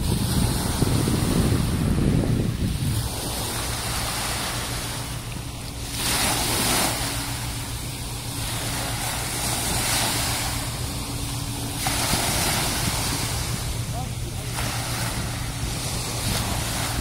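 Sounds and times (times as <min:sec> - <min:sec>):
small waves washing on sand: 0:00.0 - 0:17.0
steady low hum: 0:00.0 - 0:17.0.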